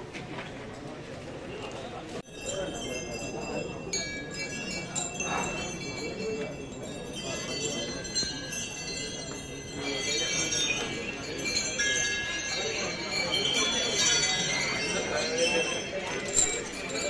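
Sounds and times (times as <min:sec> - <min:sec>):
crowd murmur: 0:00.0 - 0:17.0
small metal bells jingling: 0:02.2 - 0:17.0.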